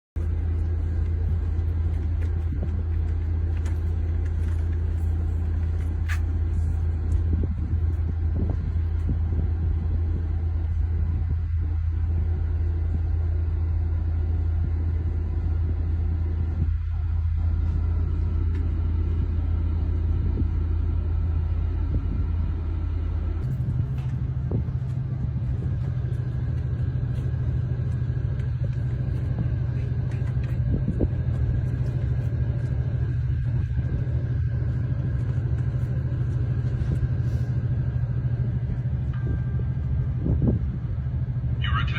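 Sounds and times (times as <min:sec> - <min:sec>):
low rumble with deep hum: 0:00.0 - 0:41.9.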